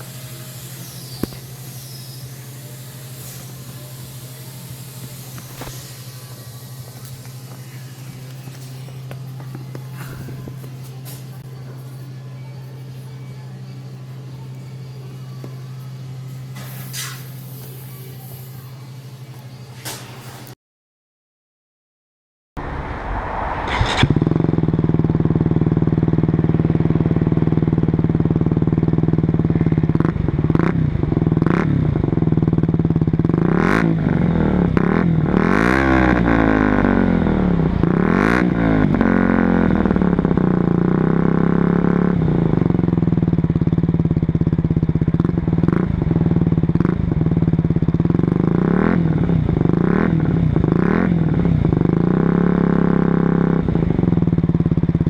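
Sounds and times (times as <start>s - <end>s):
motorcycle engine idling and revving: 0.0s - 20.6s, 22.6s - 55.0s.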